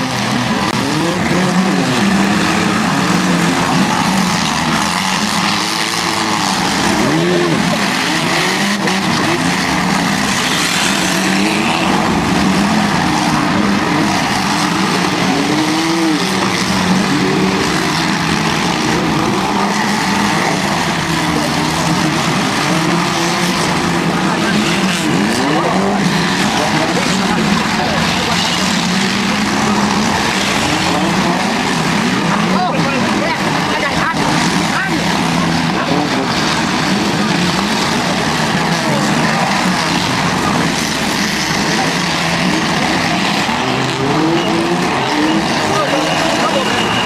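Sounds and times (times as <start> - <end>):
car engines revving: 0.0 - 47.0
tire squeal: 0.0 - 47.0.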